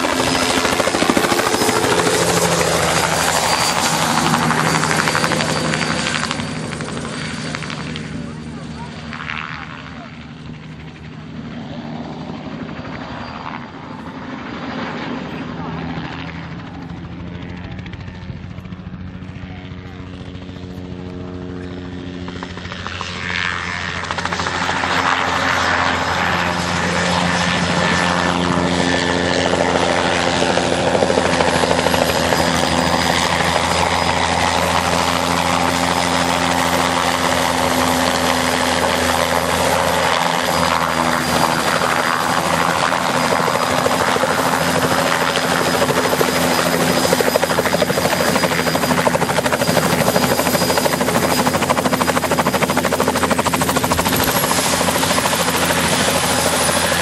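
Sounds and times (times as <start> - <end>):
helicopter engine whine: 0.0 - 57.0
helicopter rotor beat: 0.0 - 57.0.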